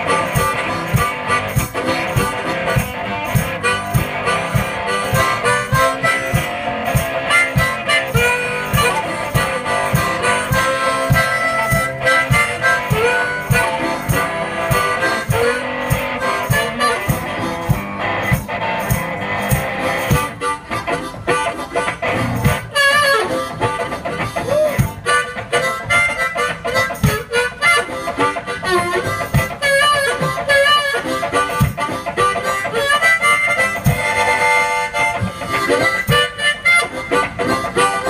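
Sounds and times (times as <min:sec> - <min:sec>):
harmonica melody: 0:00.0 - 0:38.0
steady beat: 0:00.0 - 0:38.0
strummed acoustic guitar: 0:00.0 - 0:38.0.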